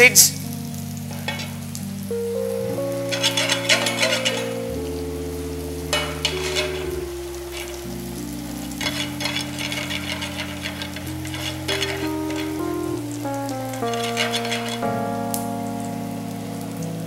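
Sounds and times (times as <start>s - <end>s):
soft background music: 0.0s - 17.0s
mustard seeds crackling in oil: 0.5s - 5.0s, 5.6s - 17.0s.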